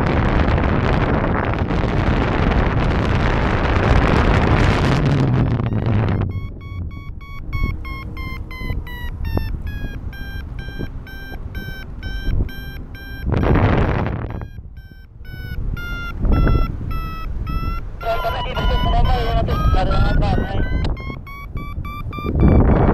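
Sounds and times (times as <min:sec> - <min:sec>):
wind rushing over microphone: 0:00.0 - 0:22.9
variometer beeping: 0:03.6 - 0:22.9.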